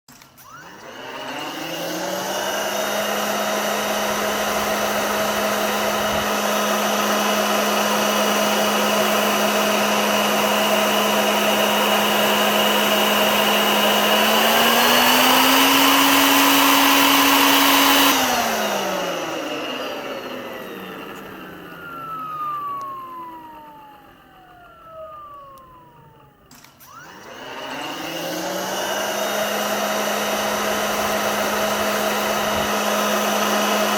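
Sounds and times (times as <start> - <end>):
vacuum cleaner motor whine: 0.1 - 33.9.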